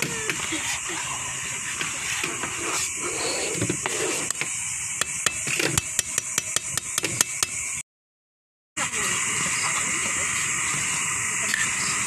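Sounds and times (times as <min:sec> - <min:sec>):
boiling pot hissing: 0:00.0 - 0:07.8, 0:08.8 - 0:12.0.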